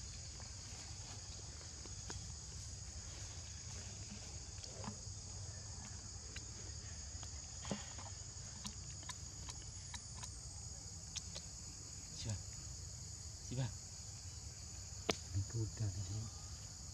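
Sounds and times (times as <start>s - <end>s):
high-pitched insect chorus: 0.0s - 16.9s.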